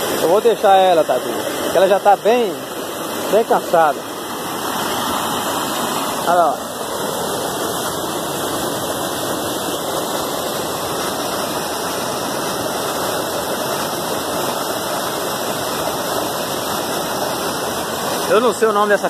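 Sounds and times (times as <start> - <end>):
stream running over rocks: 0.0 - 19.0
waterfall rushing: 0.0 - 19.0.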